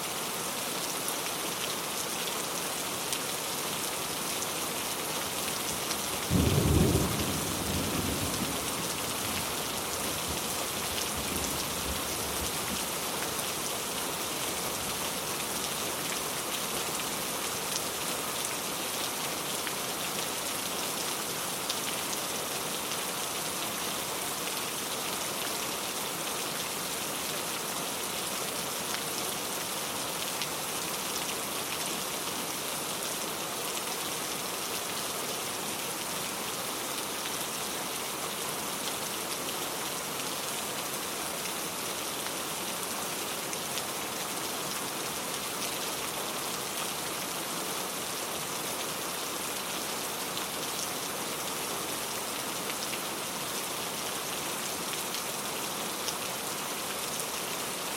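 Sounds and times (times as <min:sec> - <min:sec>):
steady rain hissing: 0:00.0 - 0:57.9.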